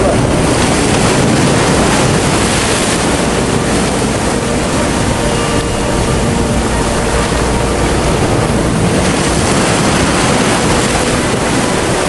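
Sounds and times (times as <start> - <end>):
flowing floodwater: 0.0 - 12.0
heavy rain: 0.0 - 12.0
wind on microphone: 0.0 - 12.0.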